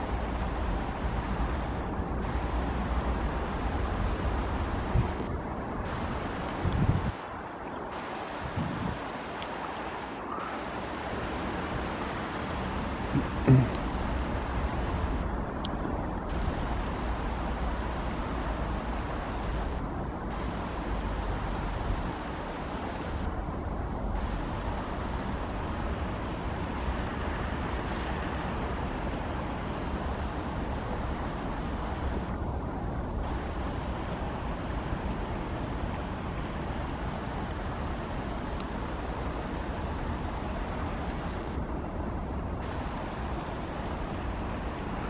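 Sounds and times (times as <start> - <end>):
heavy rain hissing: 0.0 - 45.0.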